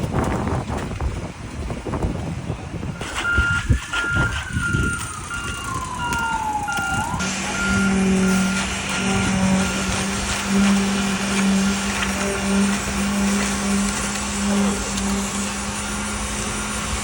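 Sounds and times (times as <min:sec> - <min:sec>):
engine rumble: 0:00.0 - 0:17.0
truck reversing alarm beeping: 0:02.9 - 0:17.0.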